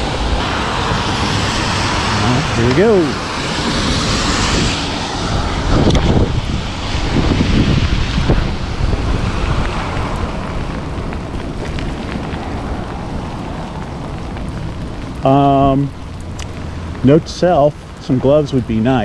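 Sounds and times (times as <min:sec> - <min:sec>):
steady rain: 0:00.0 - 0:19.0
wind rumbling on microphone: 0:00.0 - 0:19.0.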